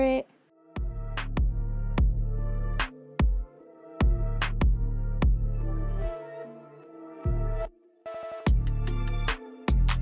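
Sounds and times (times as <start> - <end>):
electronic music with deep bass: 0.7 - 10.0.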